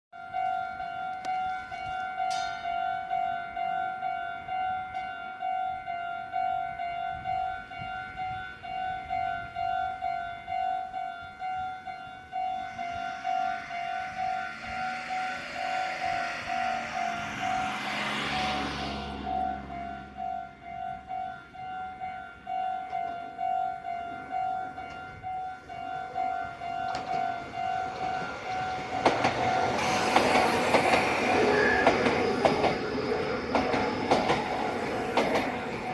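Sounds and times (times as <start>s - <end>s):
level-crossing warning bell: 0.1s - 35.9s
electric train passing: 0.2s - 35.9s.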